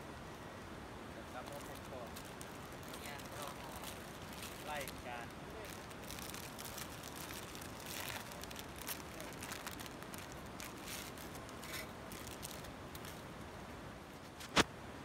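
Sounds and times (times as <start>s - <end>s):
steady hiss: 0.0s - 15.0s
foil sachet rustling: 1.2s - 13.3s
dry noodles crackling: 1.2s - 13.6s.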